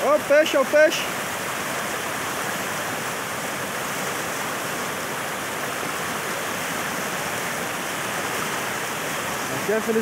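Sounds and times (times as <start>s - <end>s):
water rushing over spillway: 0.0s - 10.0s.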